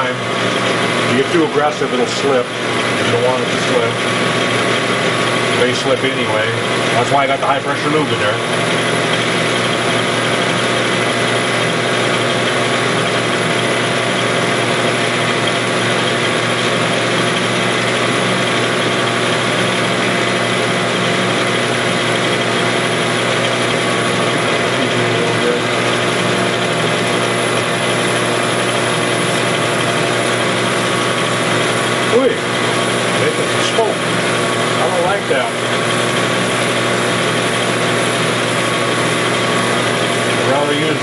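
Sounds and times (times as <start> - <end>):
metal lathe whining: 0.0 - 41.0.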